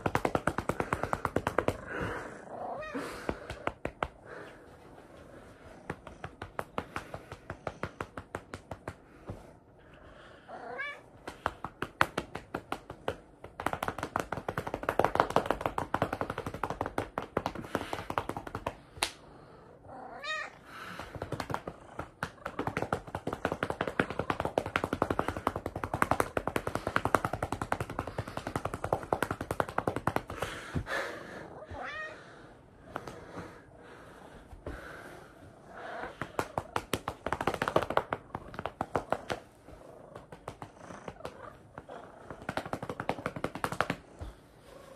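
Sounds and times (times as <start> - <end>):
hand patting a cat: 0.0 - 2.3, 3.0 - 9.6, 11.1 - 19.2, 20.8 - 31.8, 36.0 - 44.5.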